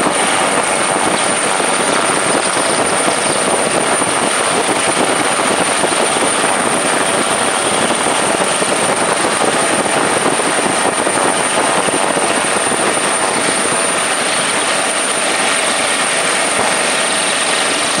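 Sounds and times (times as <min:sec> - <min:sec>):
helicopter rotor and engine: 0:00.0 - 0:18.0.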